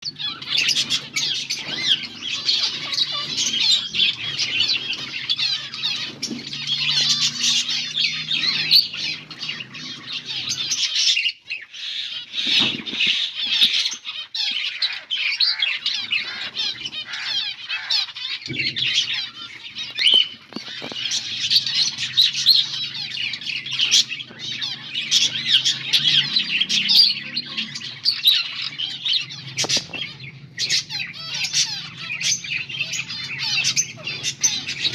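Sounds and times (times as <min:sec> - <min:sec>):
finches chirping: 0:00.0 - 0:34.9.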